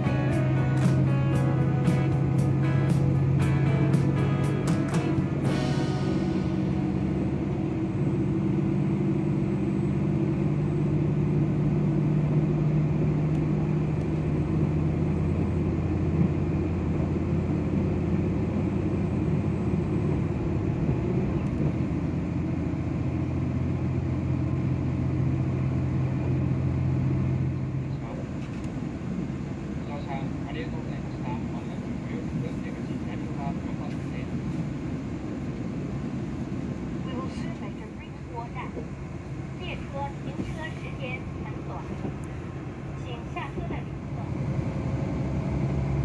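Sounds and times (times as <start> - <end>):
diesel engine drone: 0.0 - 46.0.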